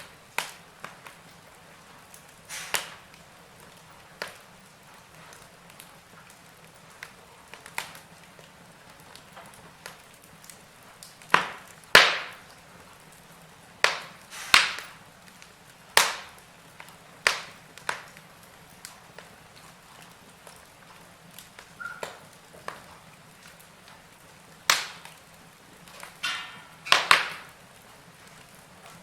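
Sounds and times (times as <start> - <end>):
fire pops: 0.0 - 29.0
wood fire crackling: 0.0 - 29.0.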